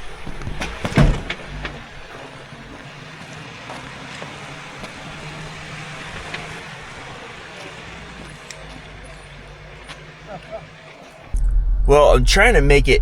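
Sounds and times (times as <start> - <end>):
suspension knocking on rocks: 0.0 - 11.3
jeep engine running low: 0.0 - 13.0.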